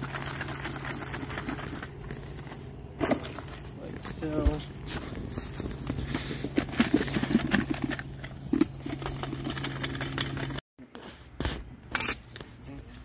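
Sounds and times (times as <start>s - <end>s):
dirt and stones crunching: 0.0s - 10.6s
low mechanical hum: 0.0s - 13.0s.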